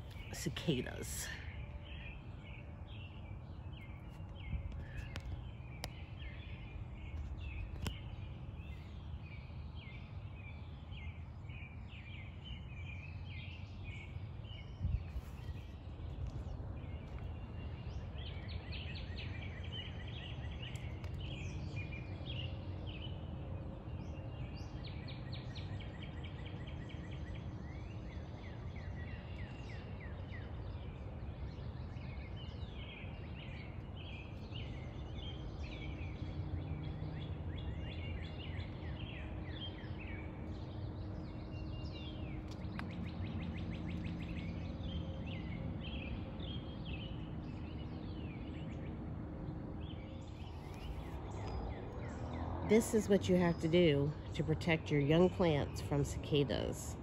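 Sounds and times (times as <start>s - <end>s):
low outdoor rumble: 0.0s - 57.0s
songbirds chirping and singing: 0.0s - 57.0s.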